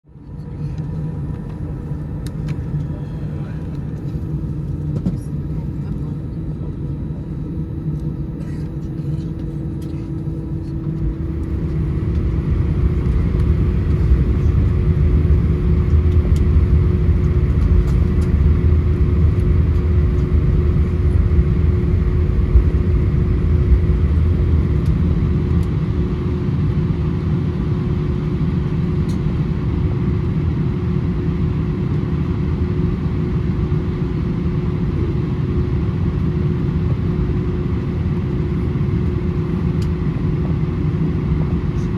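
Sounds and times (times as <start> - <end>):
airplane cabin engine drone: 0.1 - 41.9.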